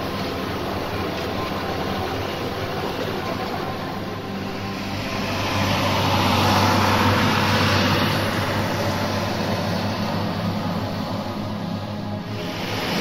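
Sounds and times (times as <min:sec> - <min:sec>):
steady rushing noise: 0:00.0 - 0:13.0
tractor diesel engine under load: 0:00.0 - 0:13.0.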